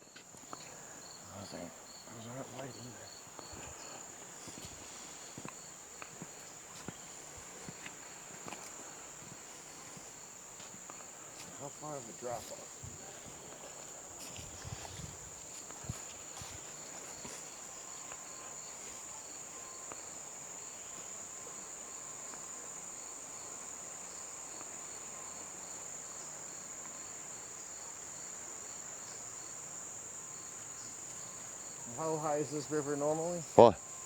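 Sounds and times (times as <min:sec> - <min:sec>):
crickets trilling: 0:00.0 - 0:34.0
faint pulsing insect call: 0:00.0 - 0:34.0.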